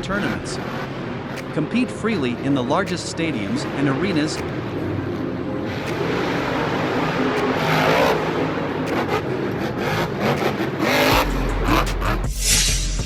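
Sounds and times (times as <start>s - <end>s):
monster truck engine revving: 0.0s - 12.6s.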